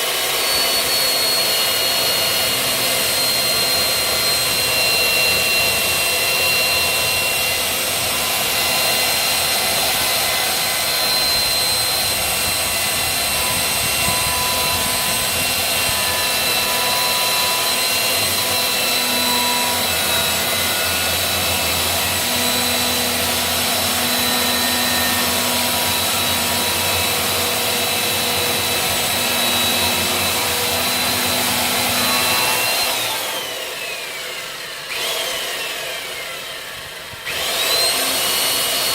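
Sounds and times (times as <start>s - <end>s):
electric saw cutting wood: 0.0s - 38.9s.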